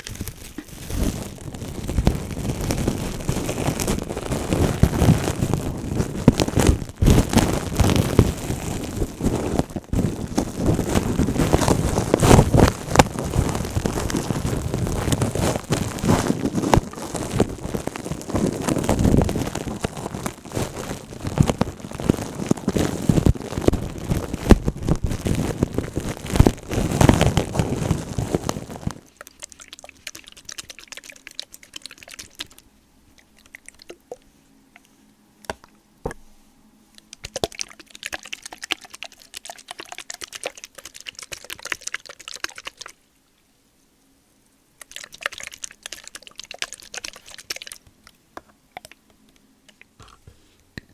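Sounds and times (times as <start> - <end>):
crackling rustle: 0.0 - 35.8, 36.8 - 44.0, 44.8 - 48.2.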